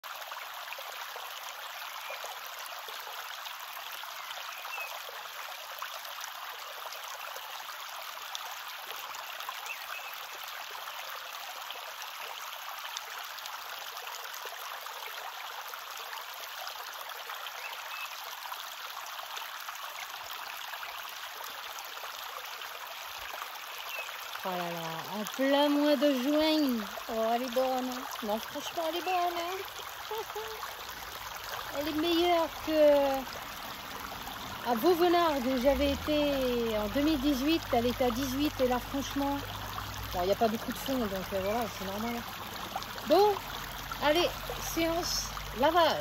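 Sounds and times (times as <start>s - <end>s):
river running over gravel: 0.0s - 46.0s
water splashes: 0.0s - 46.0s.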